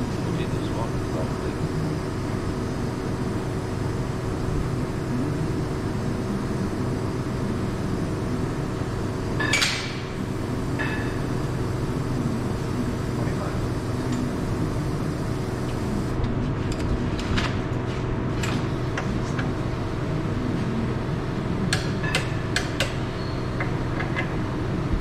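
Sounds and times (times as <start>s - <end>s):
workshop hum: 0.0s - 25.0s.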